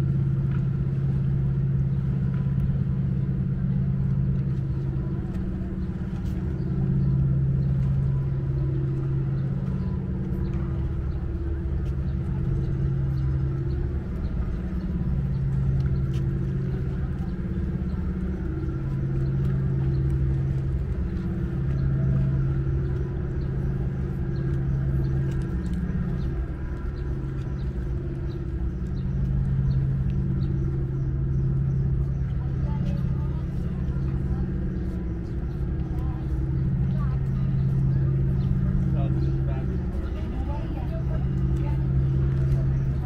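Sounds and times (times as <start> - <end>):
low engine hum: 0.0 - 43.0.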